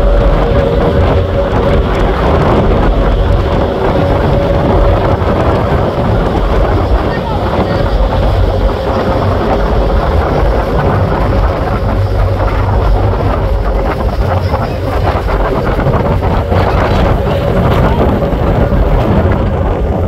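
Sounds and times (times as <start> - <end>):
ferry engines droning: 0.0 - 20.0
wind buffeting microphone: 0.0 - 20.0.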